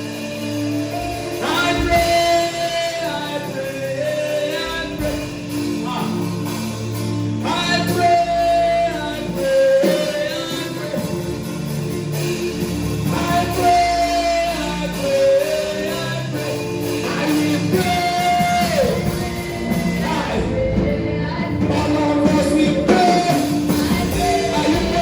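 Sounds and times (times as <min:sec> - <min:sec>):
gospel singing: 0:00.0 - 0:25.0
sustained instrumental backing: 0:00.0 - 0:25.0.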